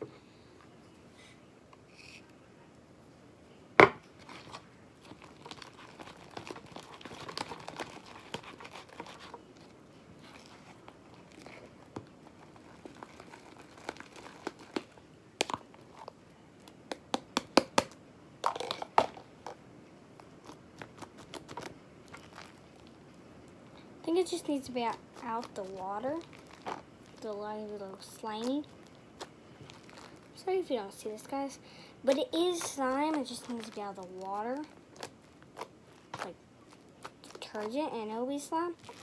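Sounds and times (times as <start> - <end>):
slime squelching: 4.2 - 17.8, 18.6 - 39.0.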